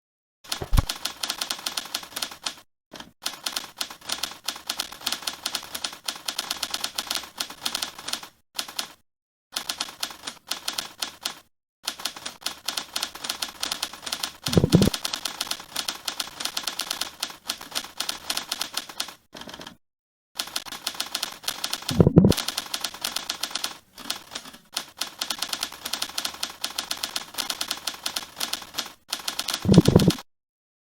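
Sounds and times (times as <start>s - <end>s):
typewriter keystroke clacks: 0.5s - 2.6s, 3.2s - 9.0s, 9.6s - 19.7s, 20.4s - 30.2s.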